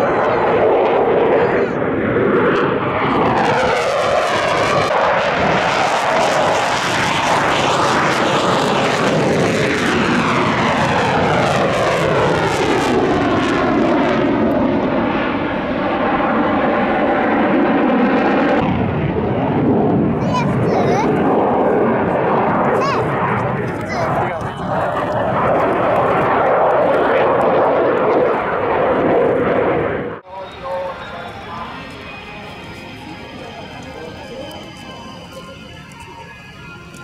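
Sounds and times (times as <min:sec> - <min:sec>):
jet aircraft flying past: 0:00.0 - 0:37.0.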